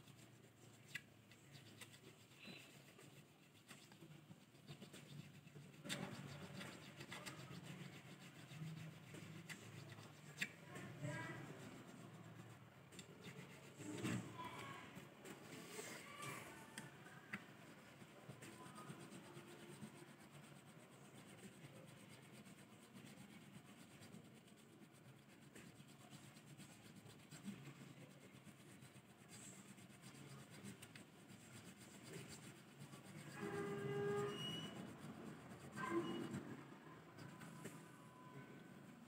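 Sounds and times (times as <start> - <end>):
file rubbing in a slot: 0.0 - 14.4, 16.8 - 38.0.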